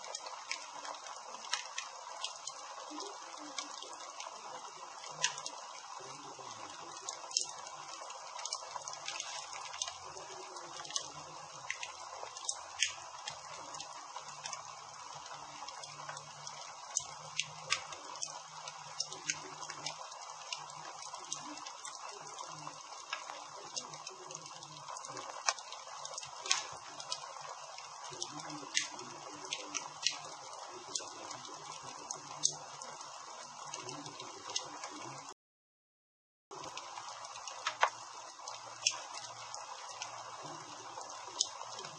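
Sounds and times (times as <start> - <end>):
campfire crackling: 0.0 - 35.3, 36.5 - 41.9.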